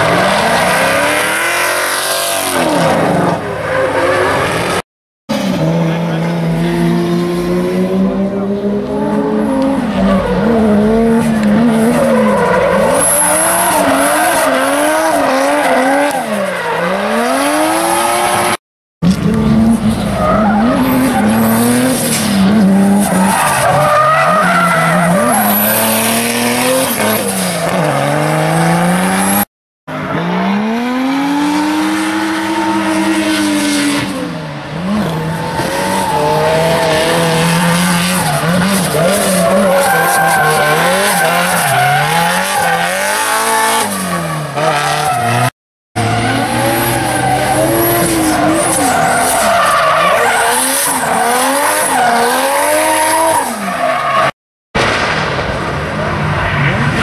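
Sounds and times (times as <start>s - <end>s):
car engines revving: 0.0s - 54.3s.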